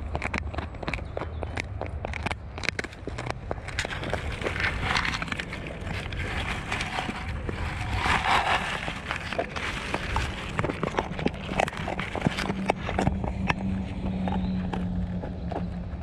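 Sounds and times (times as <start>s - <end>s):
dog chewing crunching: 0.0s - 16.0s
steady low rumble: 0.0s - 16.0s.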